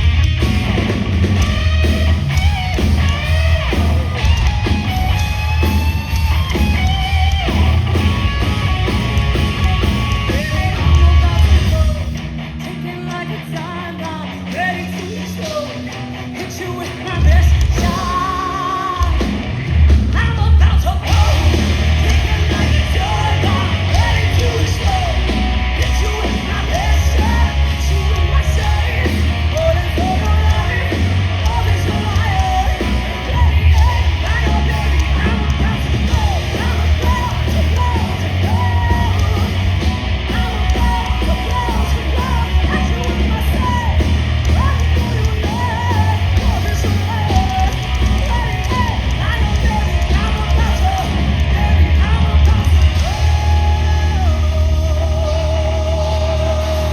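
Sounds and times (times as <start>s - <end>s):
heavy rock band playing: 0.0s - 56.9s
person singing and yelling: 10.1s - 19.4s, 20.1s - 56.9s.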